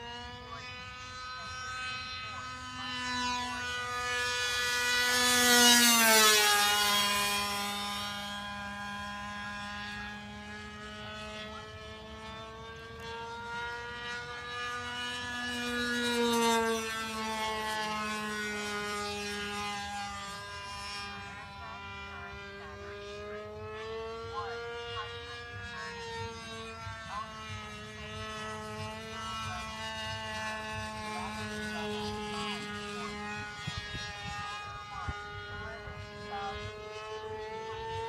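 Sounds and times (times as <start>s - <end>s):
model airplane engine passing: 0.0s - 38.0s.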